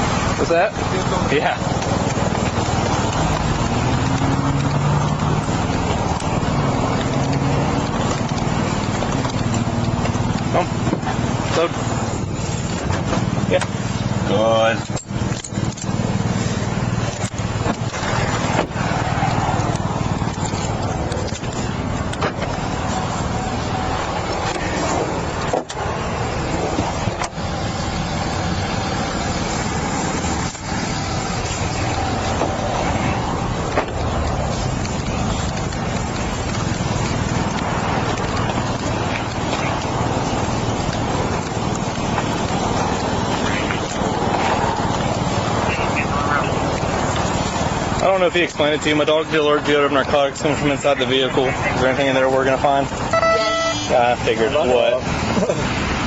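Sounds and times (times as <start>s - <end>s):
motor vehicle idling: 0.0s - 56.0s.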